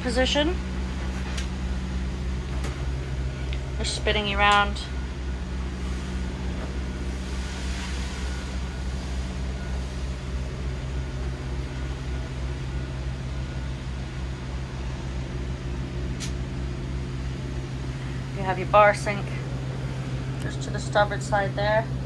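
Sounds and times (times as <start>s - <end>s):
machine hum with throb: 0.0s - 22.0s.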